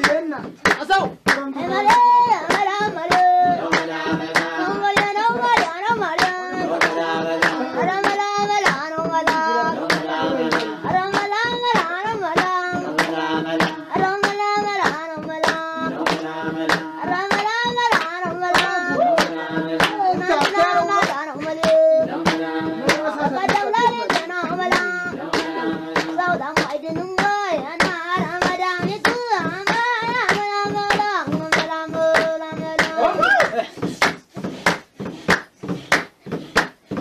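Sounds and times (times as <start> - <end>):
voices singing: 0.0 - 34.0
rhythmic hand clapping: 0.0 - 37.0.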